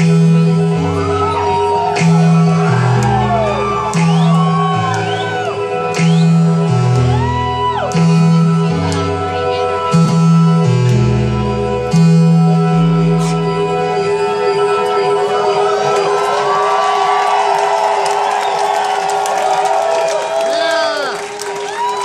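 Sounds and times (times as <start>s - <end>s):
electronic pop music: 0.0s - 22.0s.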